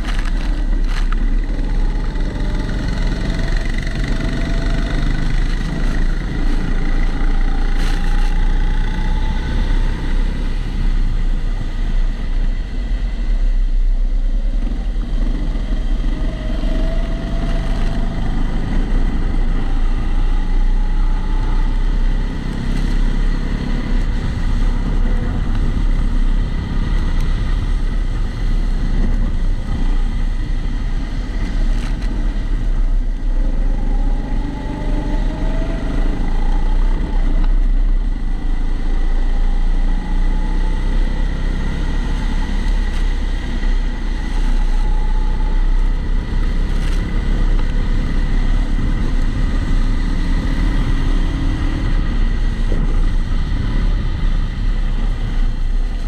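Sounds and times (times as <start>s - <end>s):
muffled kart engine: 0.0s - 56.0s.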